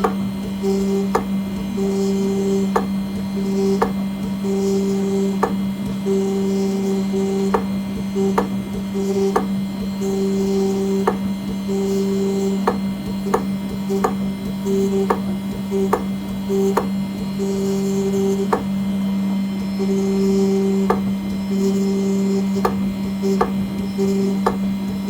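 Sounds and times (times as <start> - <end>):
engraving machine low hum: 0.0 - 25.0
high-pitched machine tone: 0.0 - 25.0.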